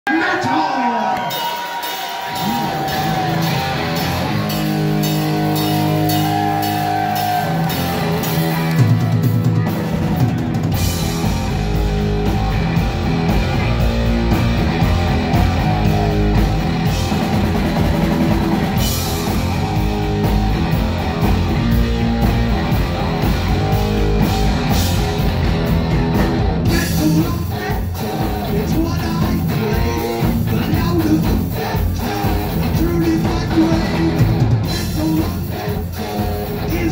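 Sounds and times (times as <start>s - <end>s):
drums: 0.1s - 36.9s
distorted electric guitar riff: 1.8s - 36.9s
bass guitar: 2.2s - 36.9s.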